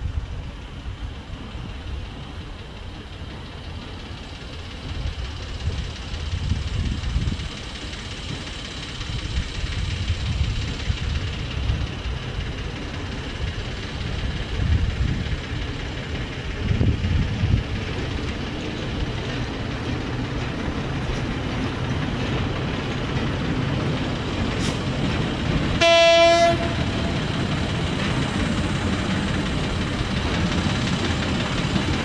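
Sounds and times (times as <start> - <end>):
locomotive engine rumble: 0.0 - 32.0.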